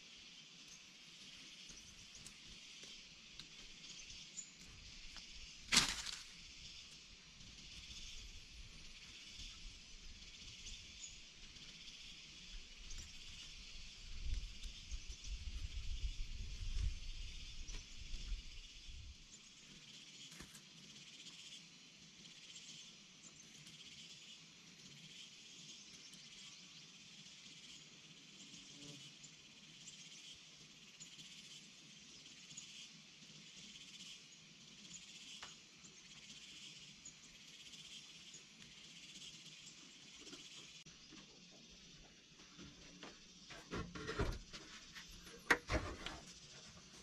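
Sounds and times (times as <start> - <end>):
insects buzzing: 0.0 - 47.0.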